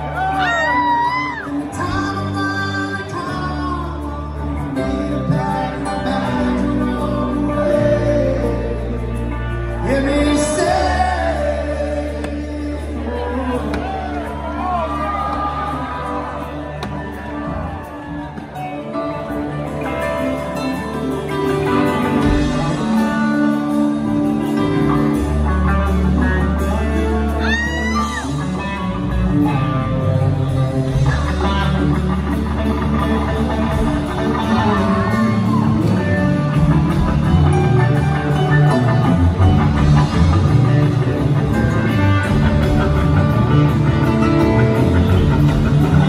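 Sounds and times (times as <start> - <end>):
rock band playing live: 0.0 - 46.0.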